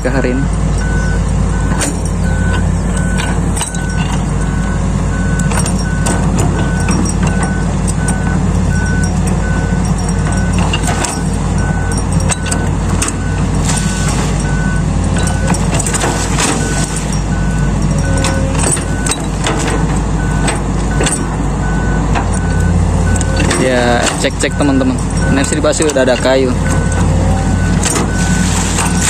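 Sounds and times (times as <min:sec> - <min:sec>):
diesel engine running: 0:00.0 - 0:29.0
sharp knocks and clicks: 0:00.6 - 0:04.6, 0:05.4 - 0:13.4, 0:15.0 - 0:21.4, 0:22.0 - 0:28.1
travel alarm beeping: 0:00.7 - 0:19.5, 0:20.2 - 0:29.0.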